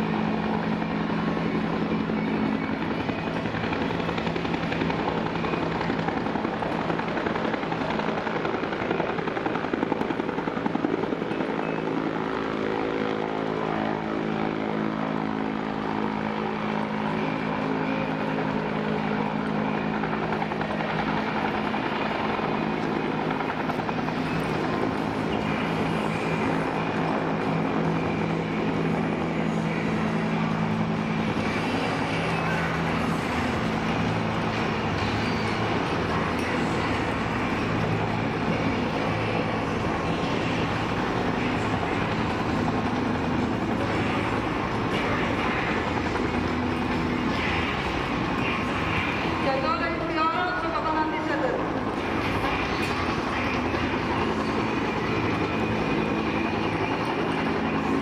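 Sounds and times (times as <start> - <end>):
helicopters flying past: 0.0 - 58.0.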